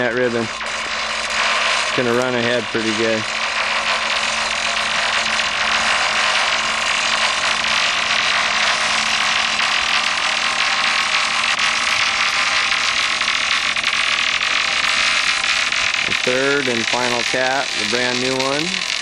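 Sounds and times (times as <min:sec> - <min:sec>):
yarder engine running under load: 0:00.0 - 0:19.0.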